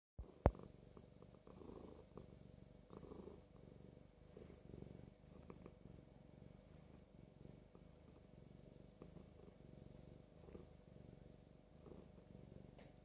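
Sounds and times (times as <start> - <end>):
cat purring: 0.2 - 13.0.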